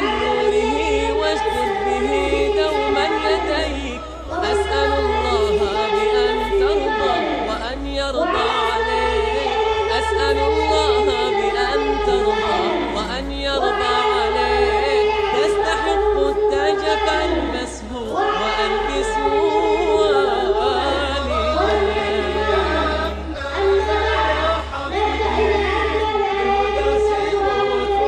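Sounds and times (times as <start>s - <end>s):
voices singing in chorus: 0.0s - 28.0s.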